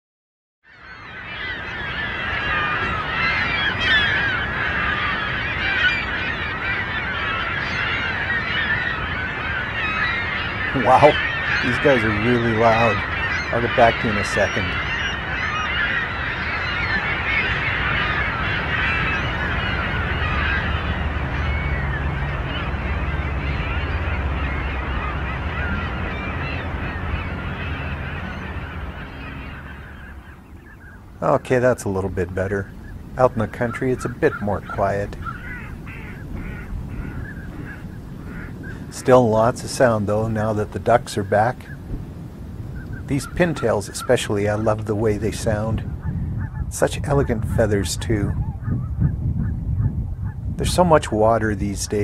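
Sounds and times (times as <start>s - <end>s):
geese honking: 0.7s - 52.0s.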